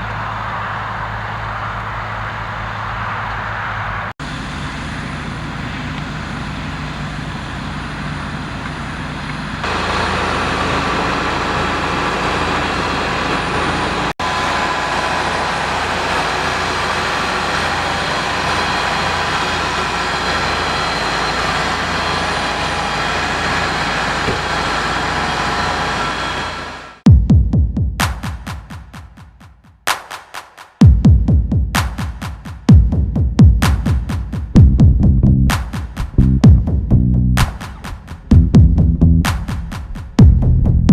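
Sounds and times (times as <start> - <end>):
tractor engine running: 0.0 - 27.0, 34.5 - 40.9.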